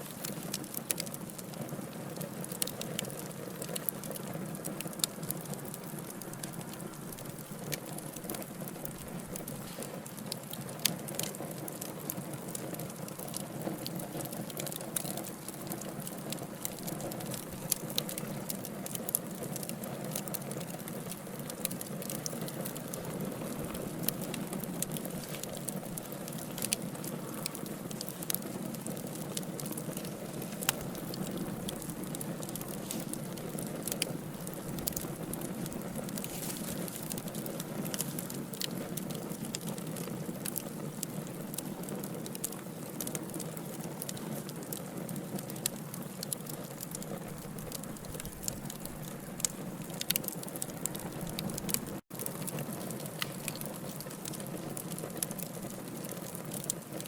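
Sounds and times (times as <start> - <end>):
fire crackling and popping: 0.0 - 57.0
wood fire burning: 0.0 - 57.0.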